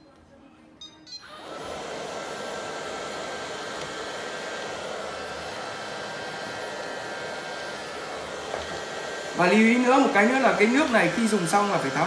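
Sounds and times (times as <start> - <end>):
robot vacuum cleaner whirring: 1.2 - 12.0.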